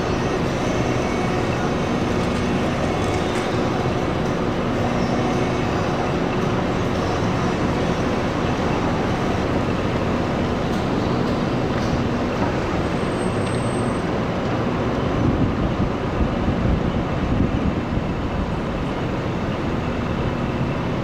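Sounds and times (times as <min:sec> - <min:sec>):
bus or truck engine: 0:00.0 - 0:21.0
city street traffic: 0:00.0 - 0:21.0.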